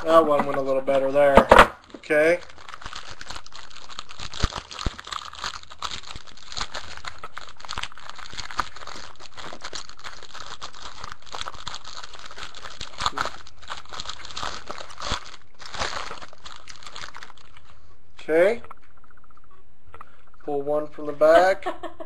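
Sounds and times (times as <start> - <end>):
plastic wrapping crinkling: 0.0 - 20.4.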